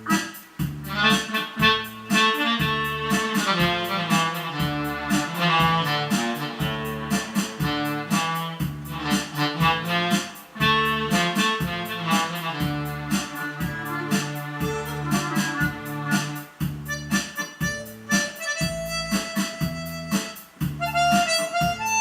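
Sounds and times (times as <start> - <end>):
electronic keyboard melody with drums: 0.0 - 22.0.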